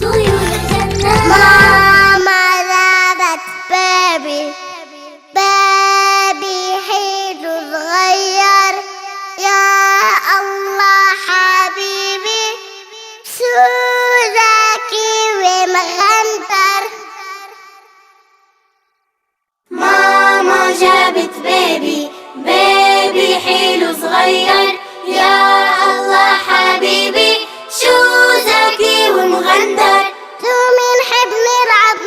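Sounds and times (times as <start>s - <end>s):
girl singing: 0.0s - 18.2s, 19.7s - 32.0s.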